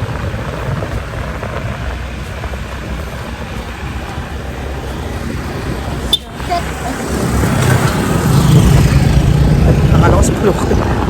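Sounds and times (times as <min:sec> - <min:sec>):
vehicle road noise: 0:00.0 - 0:11.0
wind on microphone: 0:00.0 - 0:11.0.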